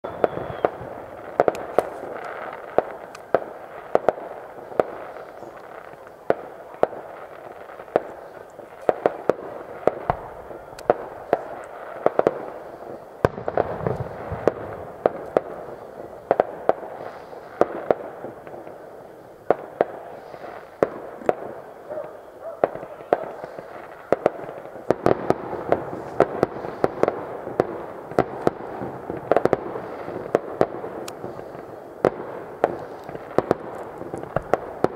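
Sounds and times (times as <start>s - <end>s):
fireworks popping and crackling: 0.0s - 34.9s.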